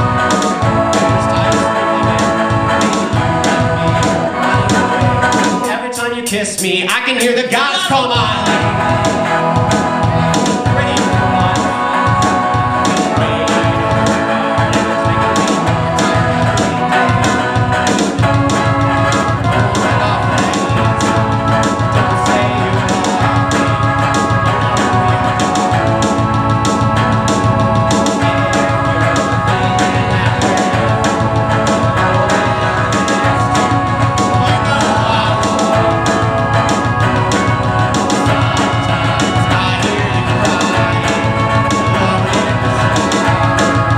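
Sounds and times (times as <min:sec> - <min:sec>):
electric guitar chords: 0:00.0 - 0:43.9
live band music: 0:00.0 - 0:43.9
man singing: 0:00.0 - 0:43.9.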